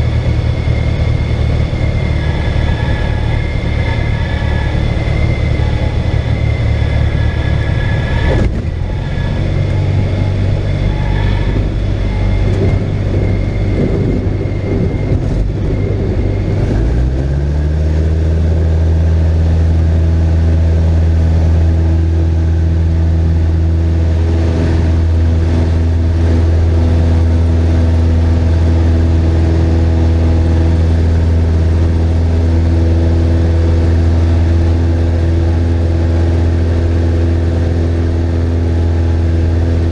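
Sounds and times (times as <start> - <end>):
propeller plane engine: 0.0 - 39.9
rolling rumble on runway: 0.0 - 39.9.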